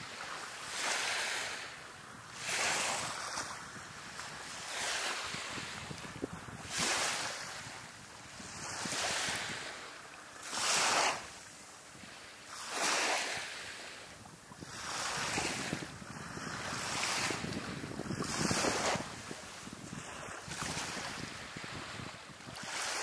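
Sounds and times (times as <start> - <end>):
small waves breaking on beach: 0.0 - 23.0.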